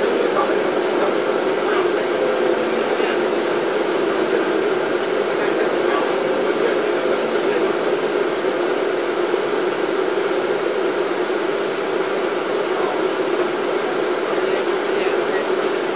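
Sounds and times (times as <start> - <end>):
bus engine and road noise: 0.0 - 15.9.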